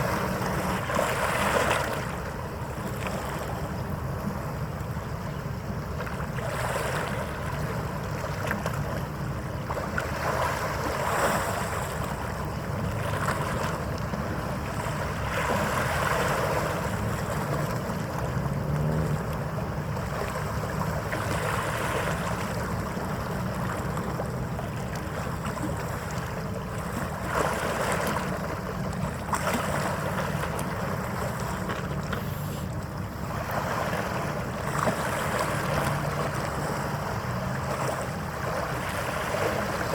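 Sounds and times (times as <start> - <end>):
low steady rumble: 0.0 - 39.9
water washing in swells: 0.0 - 39.9.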